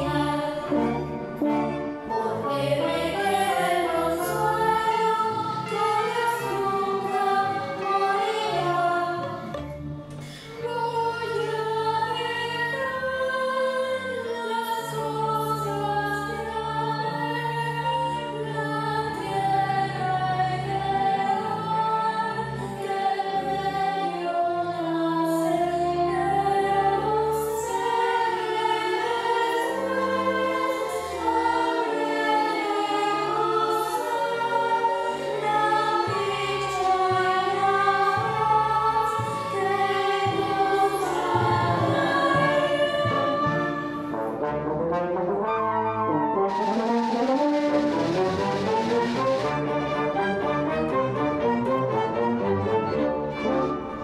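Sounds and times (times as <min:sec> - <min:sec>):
choir of young voices singing: 0:00.0 - 0:44.4.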